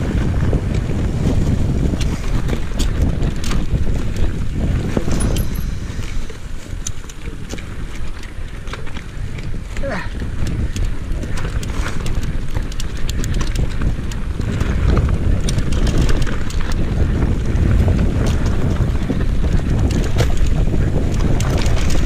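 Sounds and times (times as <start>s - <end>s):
bike tyre rumble: 0.0s - 22.0s
rapid rattling clicks from bike: 0.0s - 22.0s
wind buffeting microphone: 0.0s - 22.0s.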